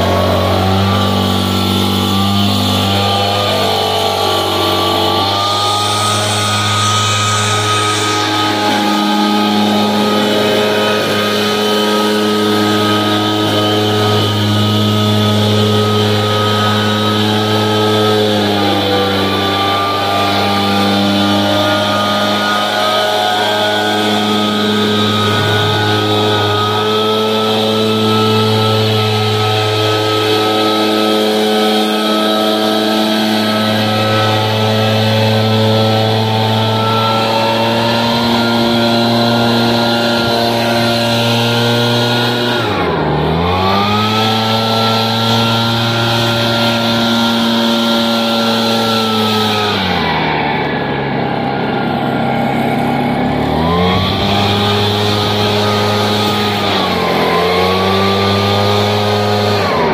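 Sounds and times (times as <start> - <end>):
leaf blower running: 0.0 - 59.9.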